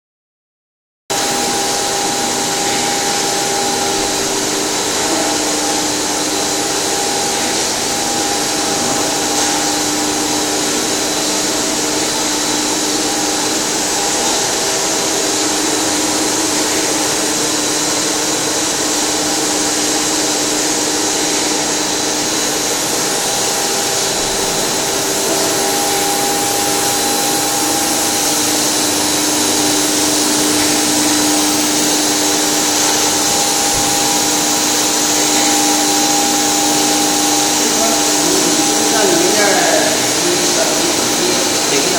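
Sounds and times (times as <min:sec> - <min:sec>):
held hum tones: 0:01.1 - 0:41.9
machinery whirring with hiss: 0:01.1 - 0:41.9
thin high whine: 0:01.1 - 0:41.9.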